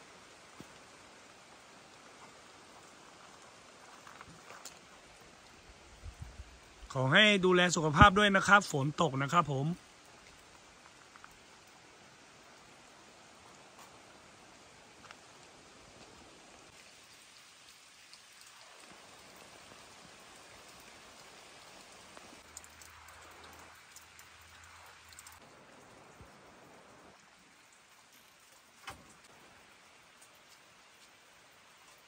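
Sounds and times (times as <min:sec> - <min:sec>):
light rain falling: 0:00.0 - 0:32.0.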